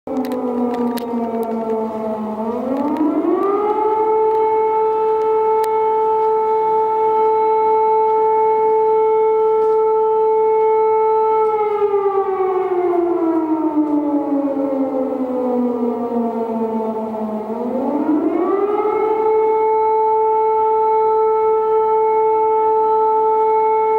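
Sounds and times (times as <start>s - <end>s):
civil defence siren wailing: 0.1s - 23.9s.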